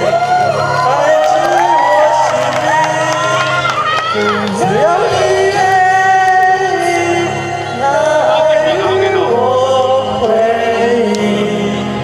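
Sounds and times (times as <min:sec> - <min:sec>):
karaoke backing track: 0:00.0 - 0:12.0
man singing: 0:00.0 - 0:12.0.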